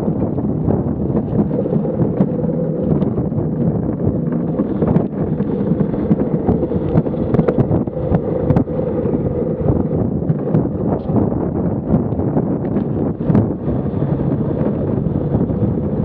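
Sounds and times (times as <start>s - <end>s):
cart wheels rumbling on concrete: 0.0s - 16.0s
wind buffeting microphone: 0.0s - 16.0s.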